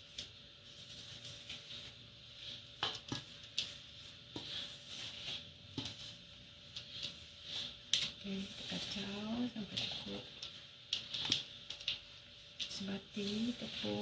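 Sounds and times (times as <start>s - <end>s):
spatula scraping mixture in bowl: 0.7s - 12.0s, 12.6s - 14.0s.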